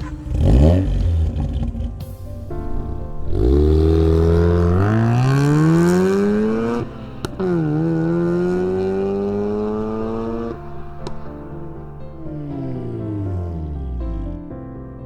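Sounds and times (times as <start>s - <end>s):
rotary engine accelerating hard: 0.0s - 14.5s
sharp exhaust crack: 0.0s - 14.5s.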